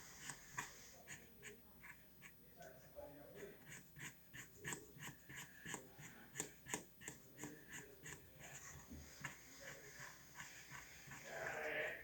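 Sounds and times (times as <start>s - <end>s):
marker scratching on cardboard: 0.0s - 2.4s, 3.3s - 12.0s.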